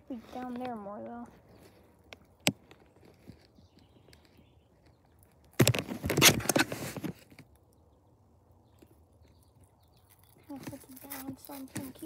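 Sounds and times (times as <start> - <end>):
crunching and rustling: 0.0 - 7.8, 8.7 - 12.0.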